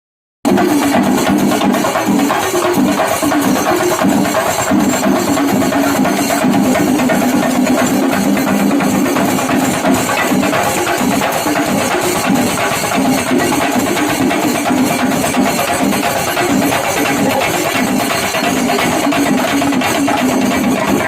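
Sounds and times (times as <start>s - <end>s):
drums beaten with sticks: 0.4s - 21.0s.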